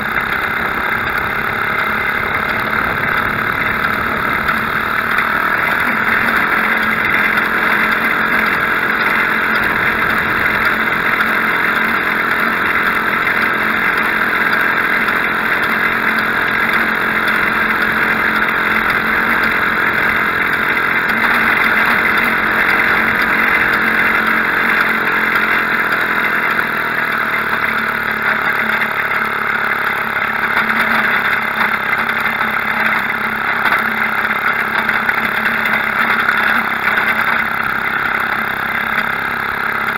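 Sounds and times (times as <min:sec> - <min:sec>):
two-stroke motorbike engine running: 0:00.0 - 0:39.9.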